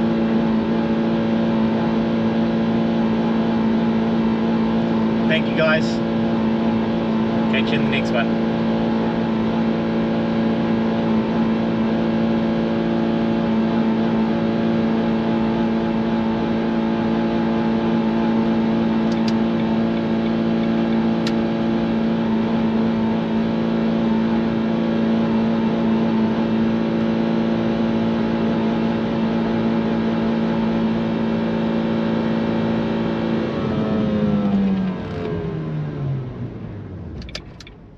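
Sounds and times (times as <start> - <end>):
car engine at high revs: 0.0 - 37.9.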